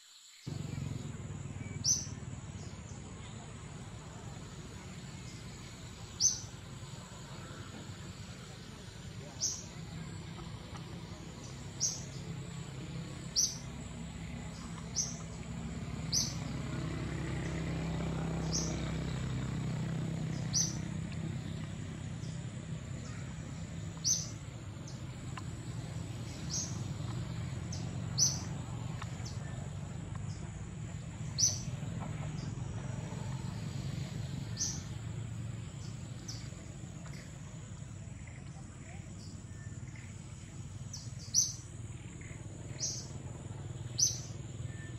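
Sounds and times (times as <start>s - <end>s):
high insect whine: 0.1s - 38.3s
bird chirping: 0.4s - 44.9s.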